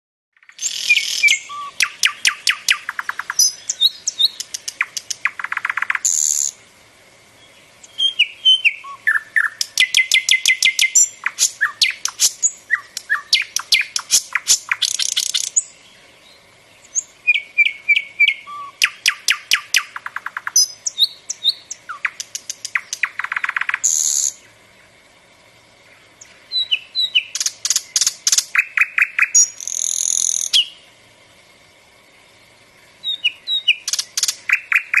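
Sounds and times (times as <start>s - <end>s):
songbird singing trills: 0.4s - 6.6s, 7.3s - 35.0s.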